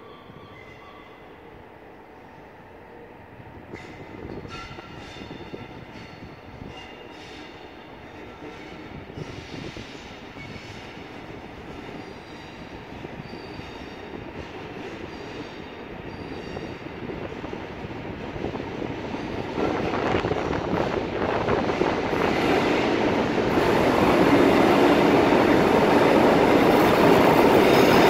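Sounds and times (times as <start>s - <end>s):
diesel locomotive train approaching: 0.0s - 28.0s.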